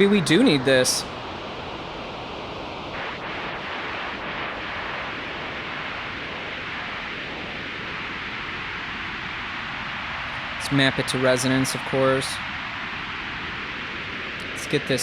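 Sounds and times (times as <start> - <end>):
filtered white noise hiss: 0.0 - 15.0.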